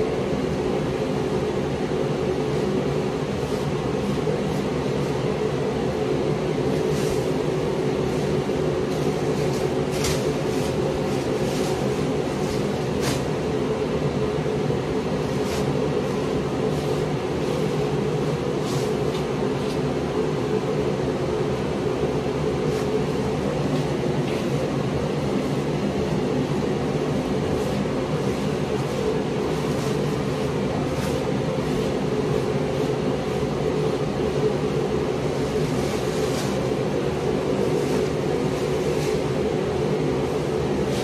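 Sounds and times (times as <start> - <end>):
steady machine drone: 0.0 - 41.0.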